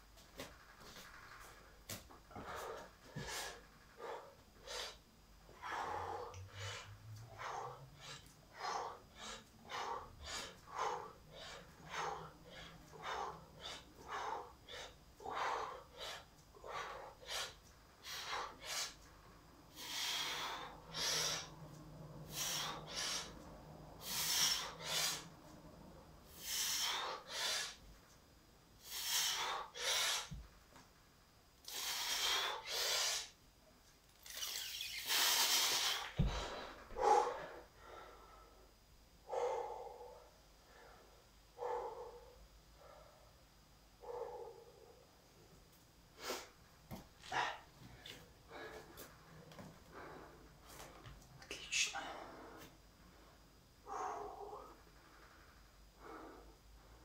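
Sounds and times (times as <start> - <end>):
man breathing hard: 2.2 - 27.9, 28.8 - 30.5, 31.6 - 33.4, 35.1 - 43.4, 47.2 - 57.0.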